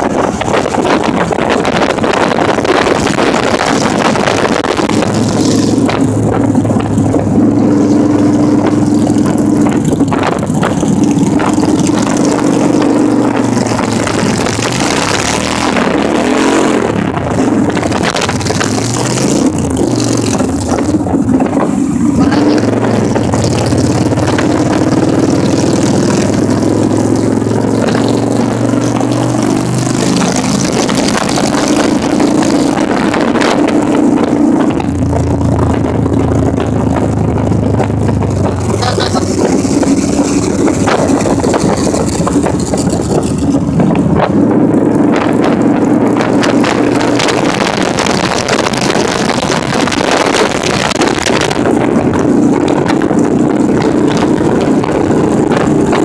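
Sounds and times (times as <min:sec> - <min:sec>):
motorcycle engines running: 0:00.0 - 0:56.0
wind rushing over microphone: 0:00.0 - 0:56.0.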